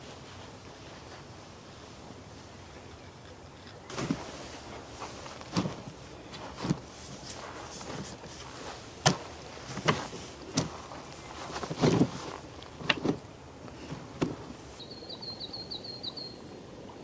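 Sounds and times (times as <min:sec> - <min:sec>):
soft hiss: 0:00.0 - 0:15.1.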